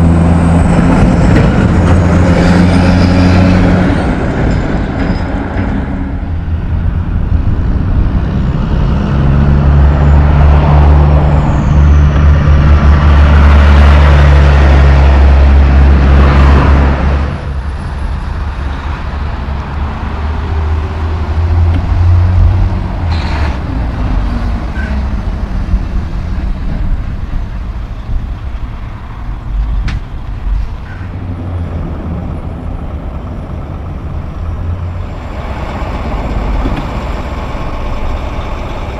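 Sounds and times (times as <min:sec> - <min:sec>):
truck diesel engine droning: 0:00.0 - 0:38.9.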